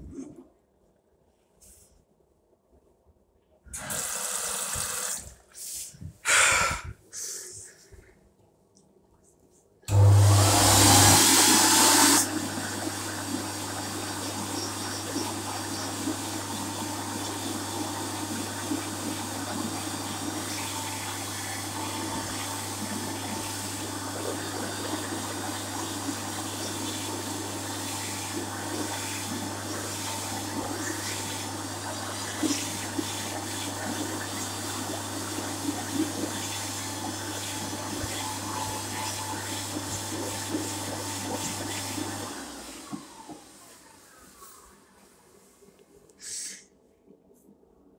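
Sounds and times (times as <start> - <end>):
hand dryer blowing: 3.8 - 7.7, 9.9 - 44.5.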